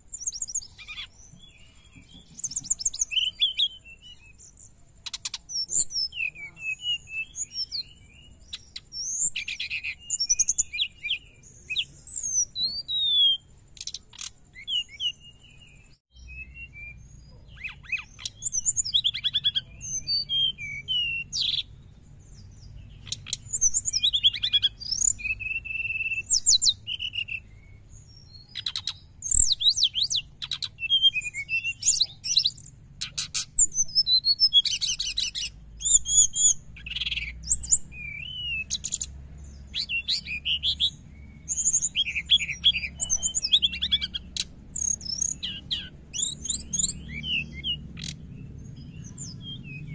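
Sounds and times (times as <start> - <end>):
bird twittering song: 0.0 - 49.9.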